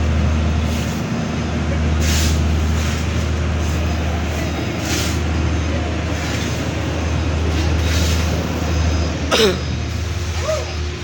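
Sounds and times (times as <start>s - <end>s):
diesel machinery engine drone: 0.0s - 11.0s.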